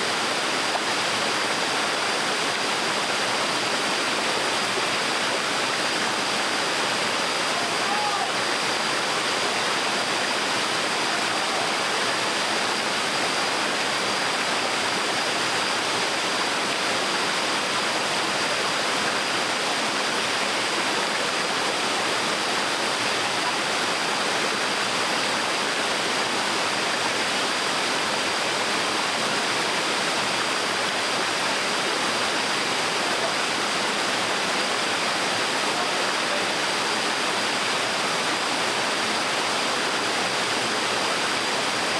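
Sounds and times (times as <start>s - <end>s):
water rushing and splashing: 0.0s - 41.9s.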